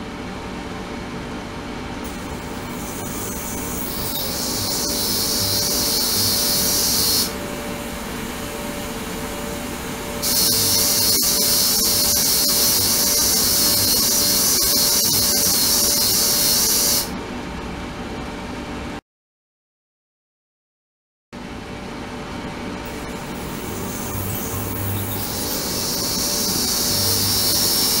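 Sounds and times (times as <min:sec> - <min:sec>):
steady hum: 0:00.0 - 0:19.0, 0:21.4 - 0:28.0.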